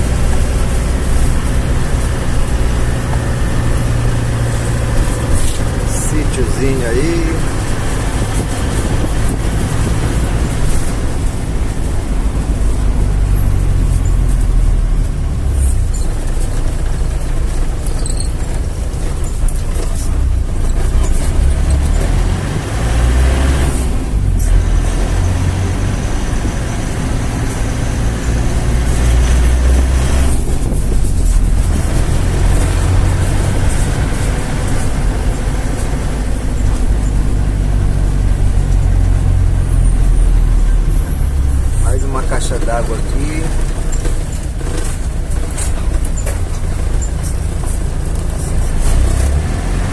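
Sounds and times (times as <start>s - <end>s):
vehicle engine and road rumble: 0.0s - 49.9s.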